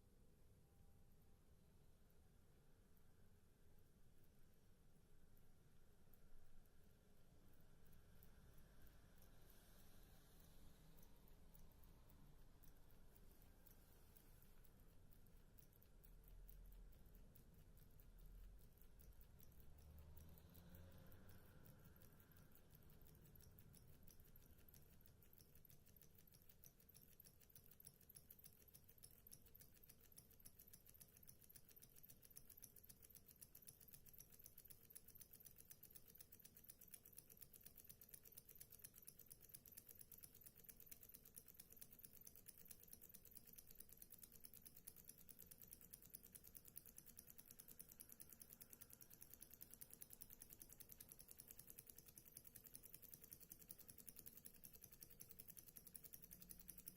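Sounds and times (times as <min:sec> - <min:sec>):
small engine ticking: 0:07.9 - 0:56.9.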